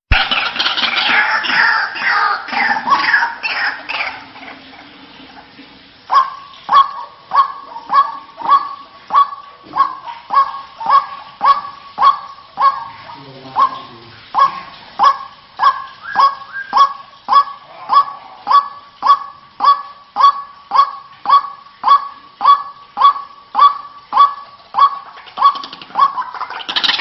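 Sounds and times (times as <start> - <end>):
waterhen harsh call: 0.1 - 27.0.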